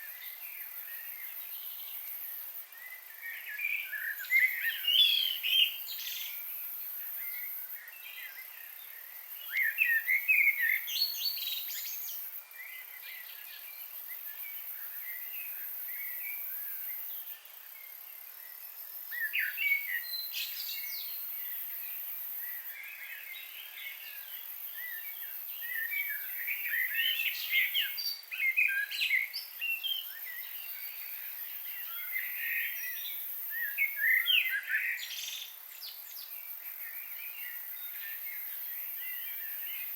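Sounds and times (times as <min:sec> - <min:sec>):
songbirds chirping and trilling: 0:00.0 - 0:39.9
steady high-pitched hiss: 0:00.0 - 0:39.9.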